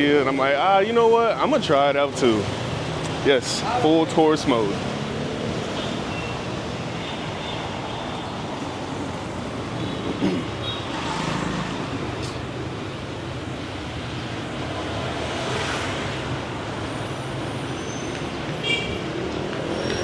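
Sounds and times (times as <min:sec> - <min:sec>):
passing vehicle engines: 0:01.8 - 0:20.0.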